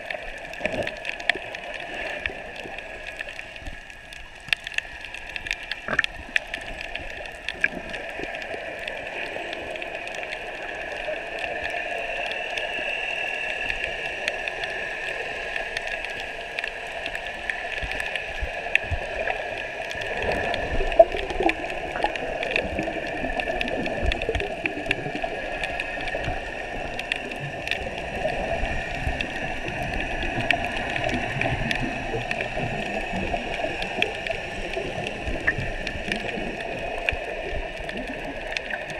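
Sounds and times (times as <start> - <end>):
sharp clicks and crackles: 0.0 - 12.7, 13.6 - 38.9
underwater moving water: 0.0 - 38.9.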